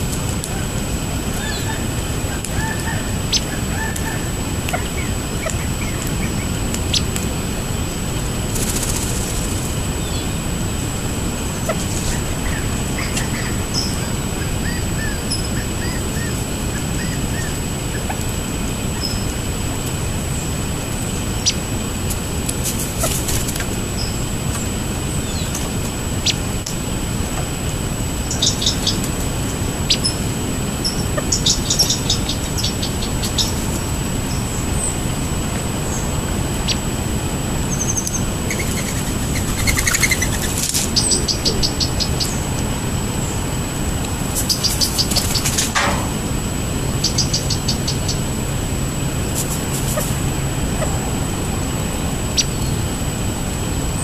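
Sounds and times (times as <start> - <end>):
steady low rumble: 0.0 - 54.0
wild birds chirping and calling: 0.4 - 7.8, 11.1 - 21.7, 22.6 - 26.6, 27.6 - 46.2, 46.8 - 53.0.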